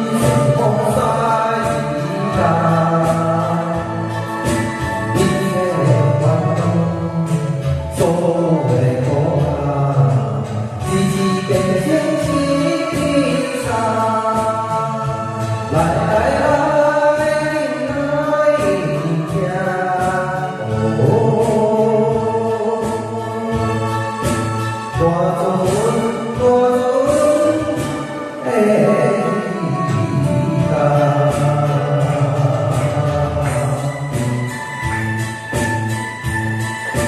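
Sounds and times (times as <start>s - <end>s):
instrumental accompaniment: 0.0s - 37.0s.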